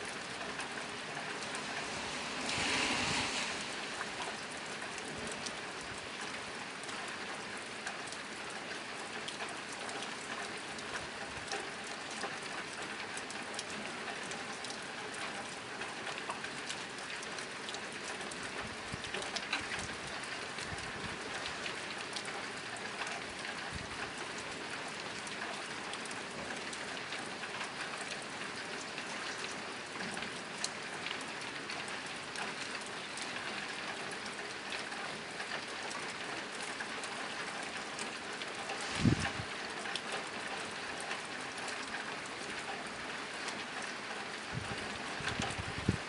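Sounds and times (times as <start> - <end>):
rain on a tin roof: 0.0 - 46.0.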